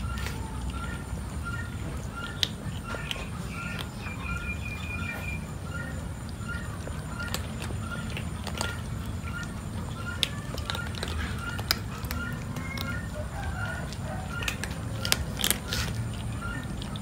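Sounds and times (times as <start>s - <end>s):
cats crunching dry kibble: 0.0s - 17.0s.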